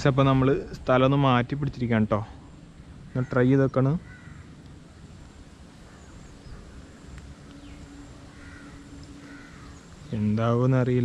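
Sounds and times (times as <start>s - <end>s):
faint bird calls: 2.2s - 11.0s.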